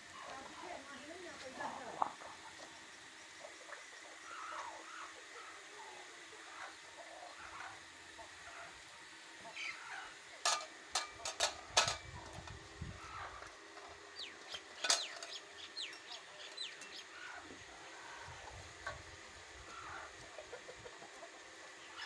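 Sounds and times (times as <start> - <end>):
chickens clucking: 1.4 - 22.0.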